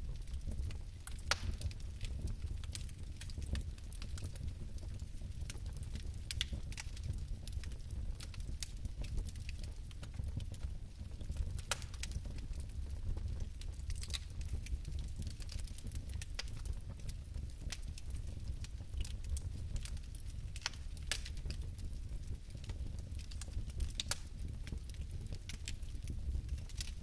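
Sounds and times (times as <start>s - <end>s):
fire crackling and popping: 0.0s - 27.0s
fire rumbling: 0.0s - 27.0s.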